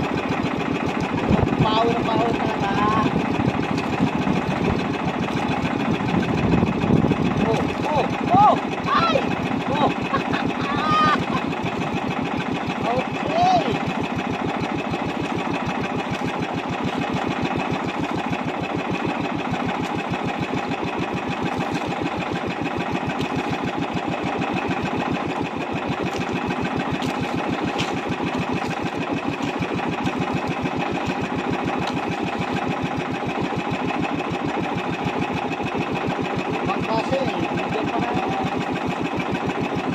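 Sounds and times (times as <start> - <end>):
boat engine chugging: 0.0 - 39.9.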